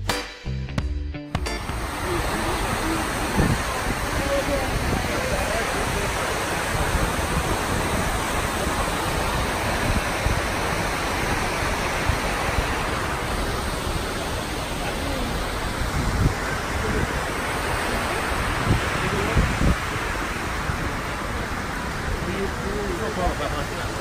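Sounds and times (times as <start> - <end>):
water pouring down walls: 1.7 - 24.0.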